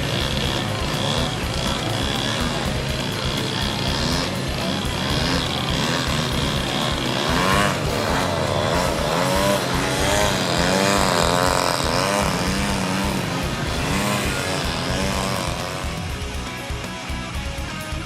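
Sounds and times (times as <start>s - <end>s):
model airplane engine: 0.0s - 18.0s.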